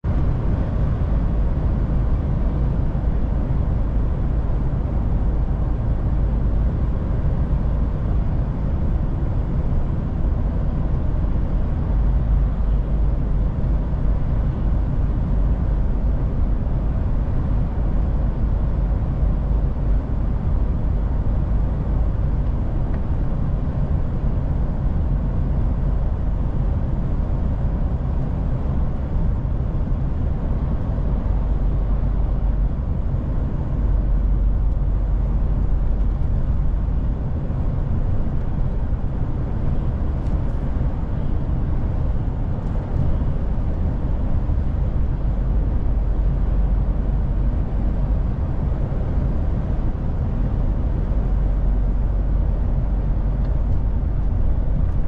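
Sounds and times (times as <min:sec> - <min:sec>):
truck engine and tyres droning: 0:00.0 - 0:55.0.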